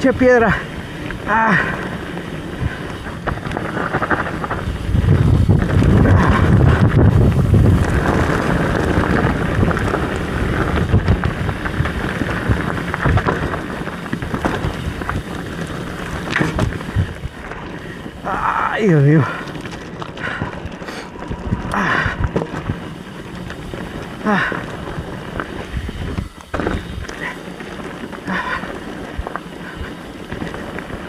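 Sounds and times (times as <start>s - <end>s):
bike rattling and knocking: 0.0s - 31.0s
wind buffeting microphone: 0.0s - 31.0s
tyres rumbling over rock: 0.6s - 31.0s.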